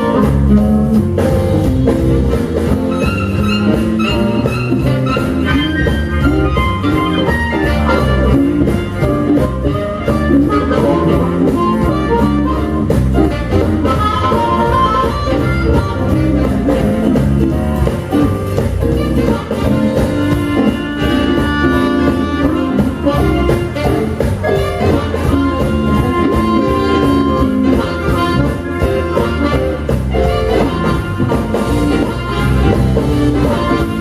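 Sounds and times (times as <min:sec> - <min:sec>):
blues band playing: 0:00.0 - 0:34.0.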